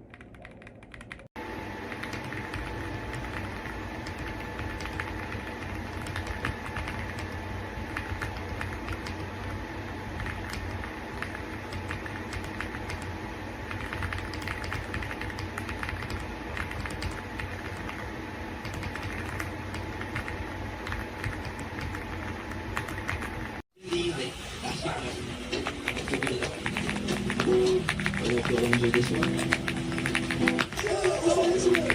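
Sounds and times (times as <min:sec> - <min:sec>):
mechanical keyboard typing: 0:00.0 - 0:01.3, 0:01.9 - 0:09.6, 0:10.2 - 0:23.4, 0:25.6 - 0:31.9.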